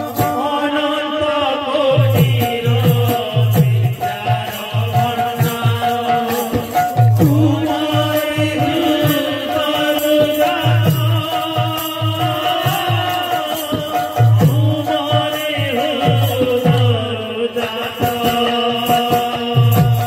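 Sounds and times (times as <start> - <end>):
person singing: 0.0 - 20.0.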